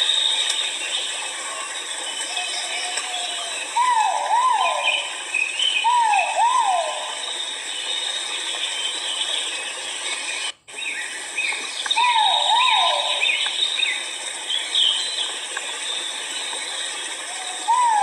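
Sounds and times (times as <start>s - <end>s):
bird chirps: 0.0s - 18.0s
forest insects humming: 0.0s - 18.0s
pheasant whistled calls: 2.2s - 9.8s, 10.7s - 18.0s.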